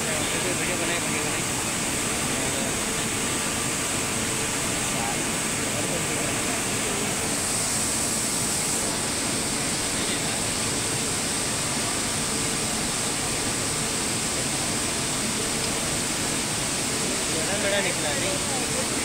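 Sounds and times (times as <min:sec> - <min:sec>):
industrial rushing hiss: 0:00.0 - 0:19.0.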